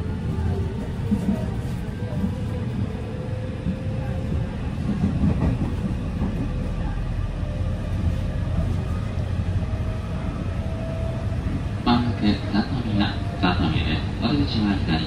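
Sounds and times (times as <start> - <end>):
train running gear rumble: 0.0 - 15.0.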